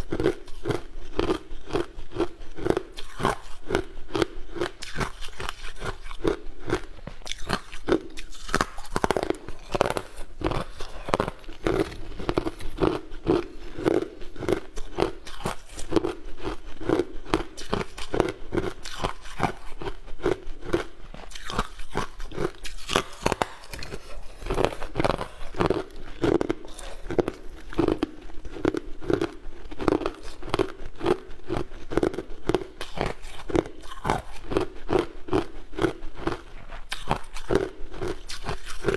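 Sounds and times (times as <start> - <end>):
chewing ice: 0.0 - 38.9.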